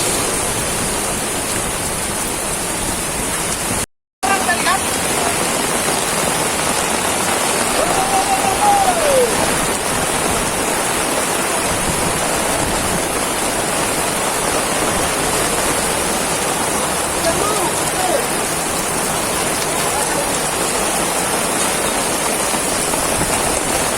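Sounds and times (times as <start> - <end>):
heavy rain splashing: 0.0 - 23.9.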